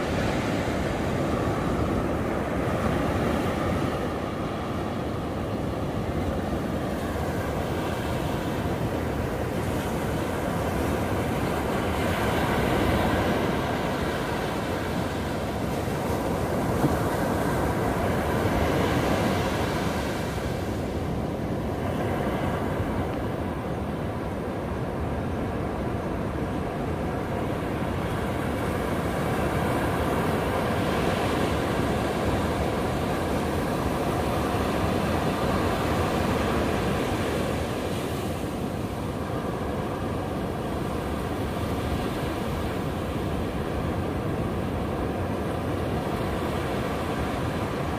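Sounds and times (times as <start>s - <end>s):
ocean waves breaking on beach: 0.0s - 47.9s.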